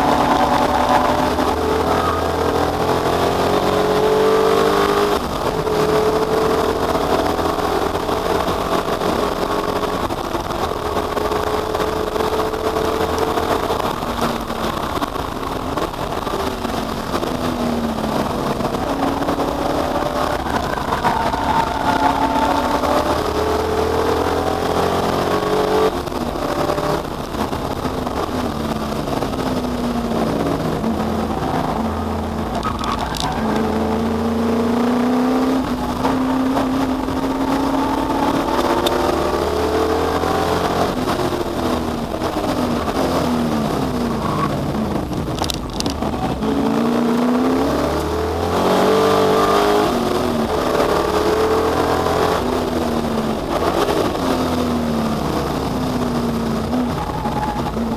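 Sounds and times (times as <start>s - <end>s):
race car engines accelerating: 0.0s - 57.9s.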